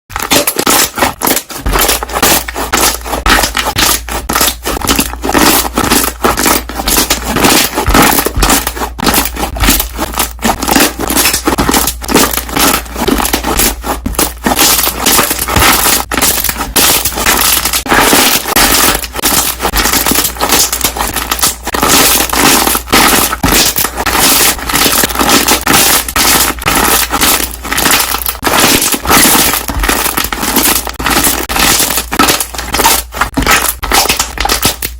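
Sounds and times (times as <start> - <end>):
bubbles popping in slime: 0.2 - 34.9.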